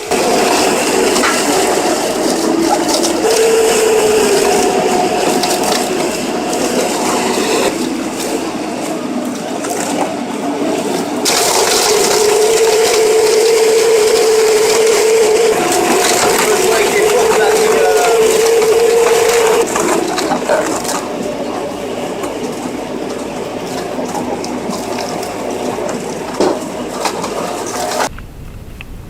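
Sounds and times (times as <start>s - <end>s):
steady machine hum: 0.0s - 28.1s
stump shredder grinding: 0.0s - 28.1s.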